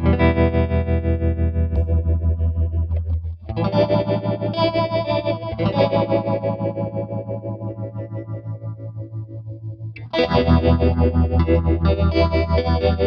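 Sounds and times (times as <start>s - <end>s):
electric guitar chords with tremolo: 0.0s - 13.0s.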